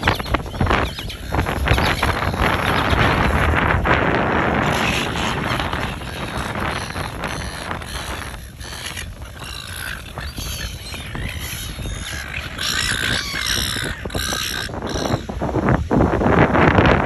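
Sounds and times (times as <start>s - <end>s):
gulls calling: 0.0s - 15.6s
wind rumbling on microphone: 0.0s - 17.0s.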